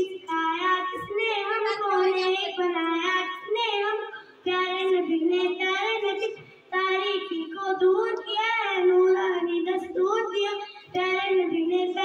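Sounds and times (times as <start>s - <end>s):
girl chanting melodically: 0.0s - 12.0s.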